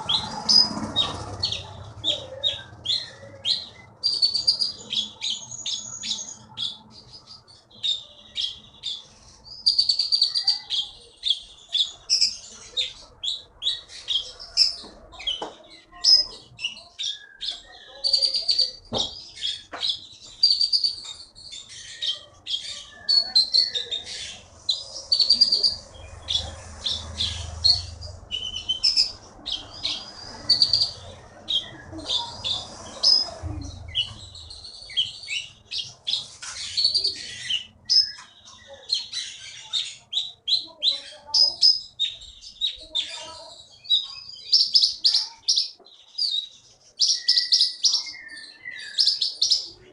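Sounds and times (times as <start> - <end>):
songbird chirping and trilling: 0.0 - 49.9.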